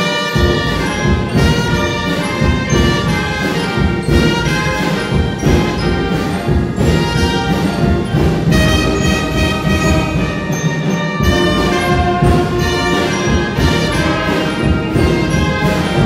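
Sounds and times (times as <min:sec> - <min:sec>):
brass band playing: 0:00.0 - 0:16.0
timpani: 0:00.0 - 0:16.0.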